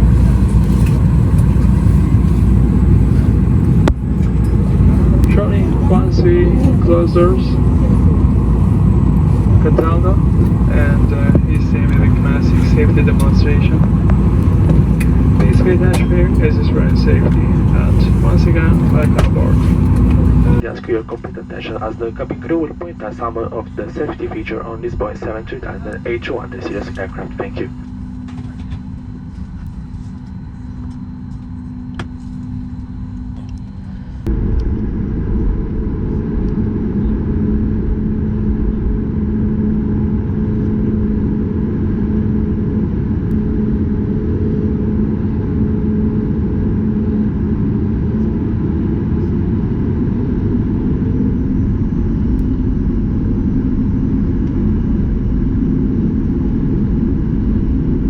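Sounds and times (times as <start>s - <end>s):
airliner cabin hum: 0.0s - 58.0s
engine rumble with droning tone: 0.0s - 58.0s.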